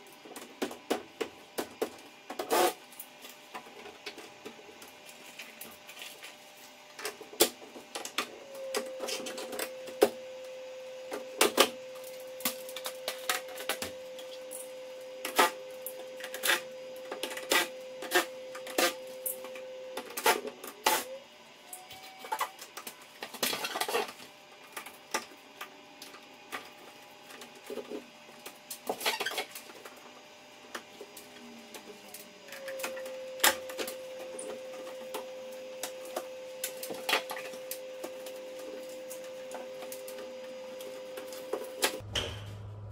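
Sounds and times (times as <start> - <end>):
motor hum: 3.1 - 42.9.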